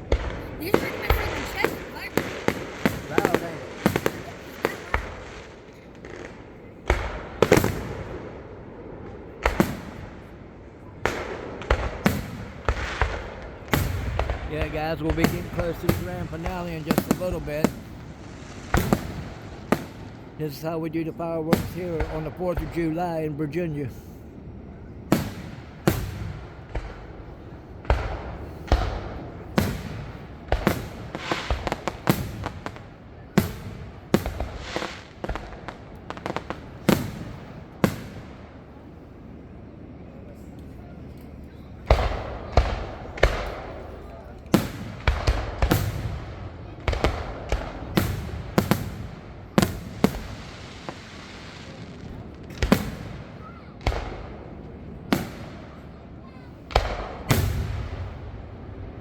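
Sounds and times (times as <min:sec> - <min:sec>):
fireworks booming: 0:00.0 - 0:39.6, 0:41.8 - 0:59.0.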